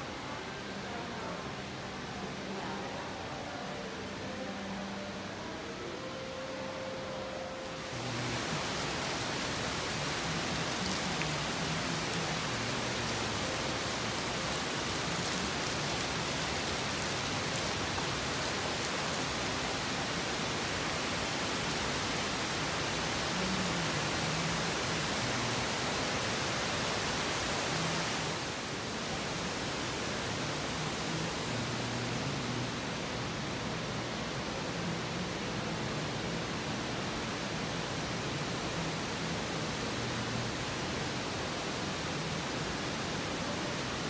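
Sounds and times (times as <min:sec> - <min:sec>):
water feature rushing: 0:07.6 - 0:44.0.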